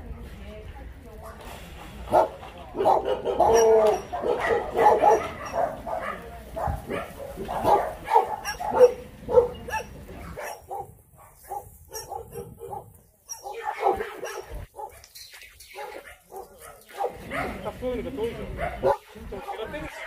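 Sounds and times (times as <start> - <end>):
dogs barking: 1.2 - 17.8, 18.5 - 20.0.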